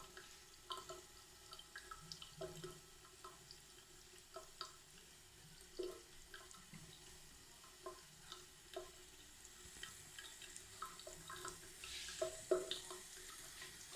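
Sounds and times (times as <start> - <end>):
light water trickle: 0.0 - 13.9
small splashes and drips: 0.0 - 13.9.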